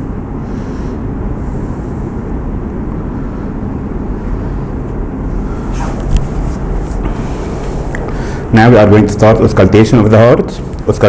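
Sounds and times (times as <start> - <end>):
low rumble with hiss: 0.0 - 11.0.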